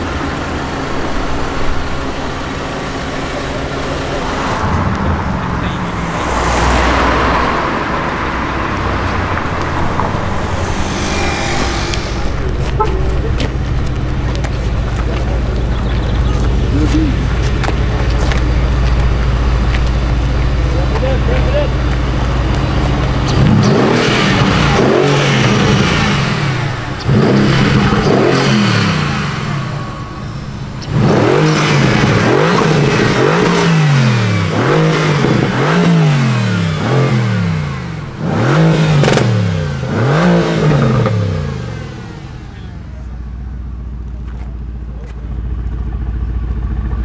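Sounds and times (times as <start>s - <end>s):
car engine revving and idling: 0.0s - 47.0s.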